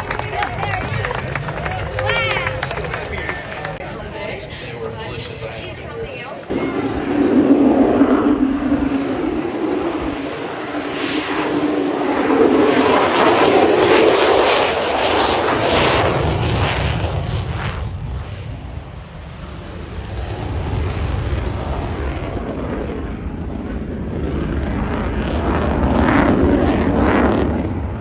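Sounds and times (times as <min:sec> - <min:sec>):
jet engine passing: 0:00.0 - 0:28.0.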